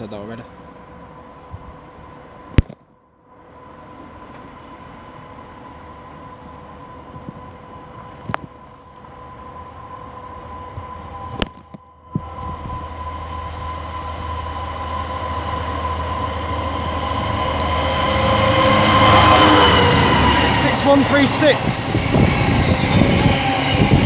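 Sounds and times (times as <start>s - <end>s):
diesel locomotive approaching: 3.3s - 24.0s.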